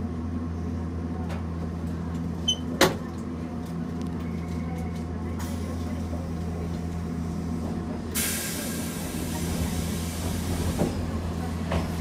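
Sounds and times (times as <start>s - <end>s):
tram electrical hum: 0.0s - 12.0s.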